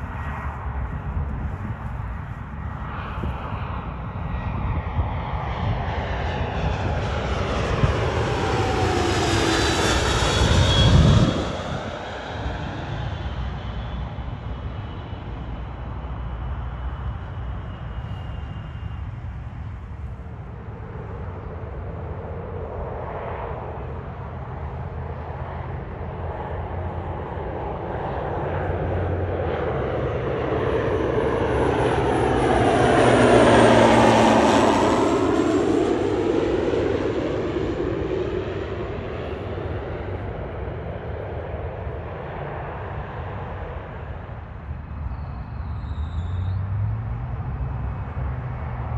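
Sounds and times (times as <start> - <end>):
jet engine high whine: 0.0 - 48.9
jet flying past: 0.0 - 48.9.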